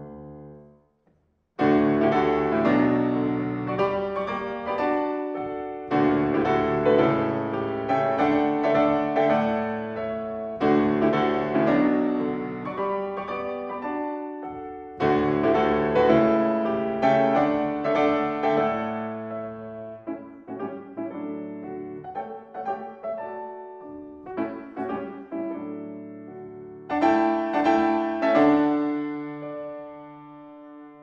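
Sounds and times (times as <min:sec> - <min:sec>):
solo piano classical music: 0:00.0 - 0:01.0, 0:01.6 - 0:31.0.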